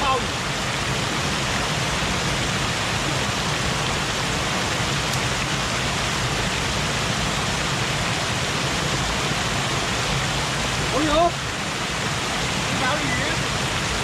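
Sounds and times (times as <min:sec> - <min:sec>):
water pouring over a dam: 0:00.0 - 0:14.0.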